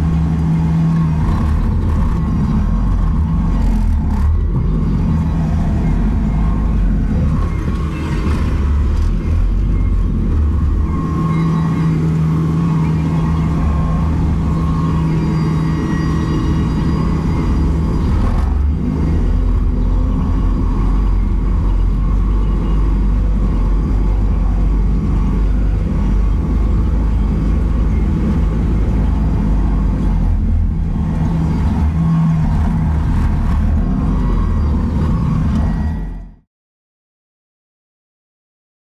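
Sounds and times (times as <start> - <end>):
diesel engine running: 0.0 - 36.4.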